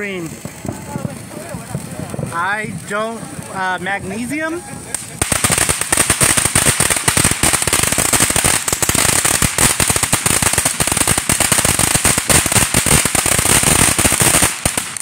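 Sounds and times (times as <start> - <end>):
firework fountain hissing: 0.0 - 15.0
sparks crackling and popping: 0.0 - 15.0.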